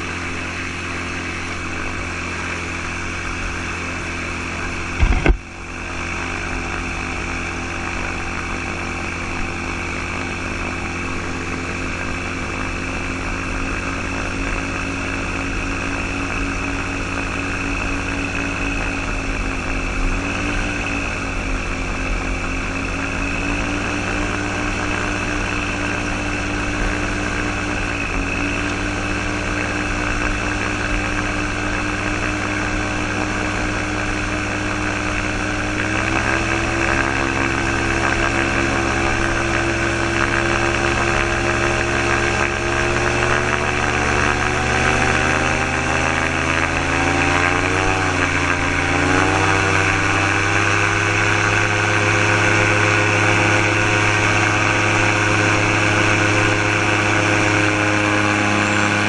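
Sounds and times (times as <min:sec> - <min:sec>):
aircraft engine and propeller running: 0:00.0 - 0:59.0.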